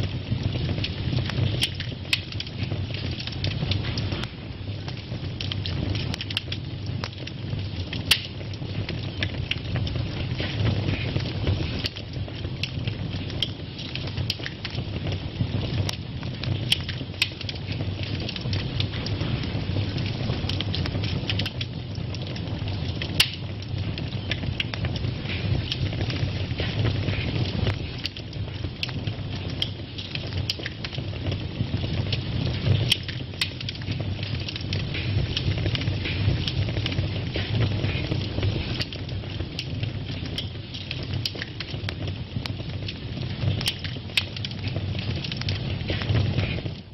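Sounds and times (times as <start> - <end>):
fire crackles and pops: 0.0 - 46.9
fire low rumble: 0.0 - 46.9.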